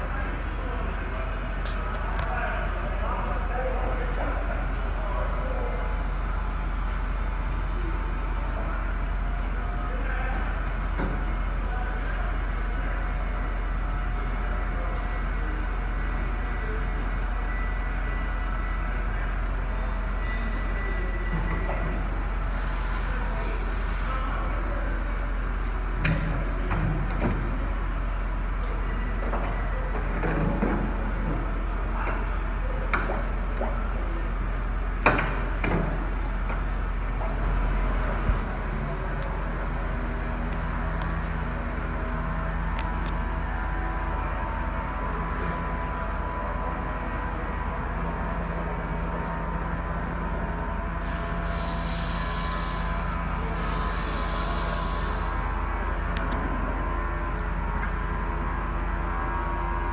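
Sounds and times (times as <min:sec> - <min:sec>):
crane truck mechanical running noise: 0:00.0 - 0:59.9
steady low hum: 0:00.0 - 0:59.9.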